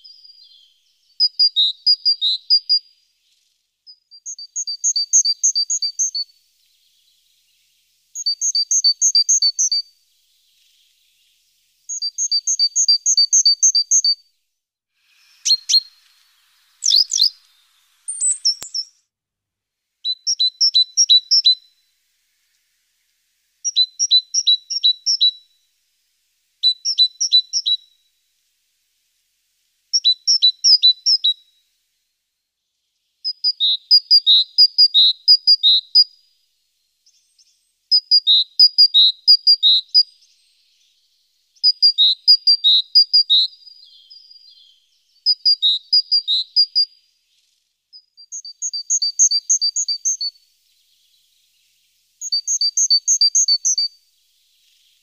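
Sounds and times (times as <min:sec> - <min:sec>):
songbird chirping: 0:00.0 - 0:19.2, 0:20.0 - 0:55.0.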